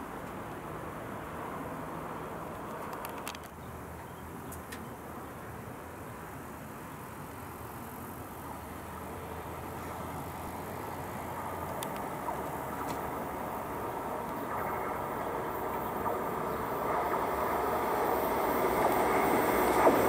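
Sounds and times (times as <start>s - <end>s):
train rolling noise: 0.0s - 4.9s, 7.6s - 20.0s.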